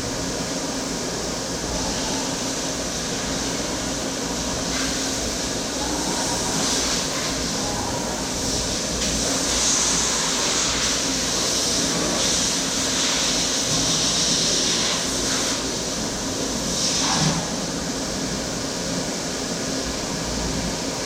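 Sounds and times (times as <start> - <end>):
machine mechanical hum: 0.0 - 21.0.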